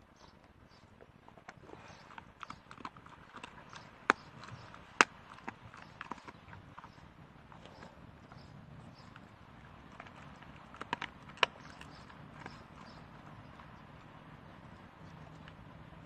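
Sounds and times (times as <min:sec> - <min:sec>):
dog crunching on a bone: 0:00.7 - 0:16.0.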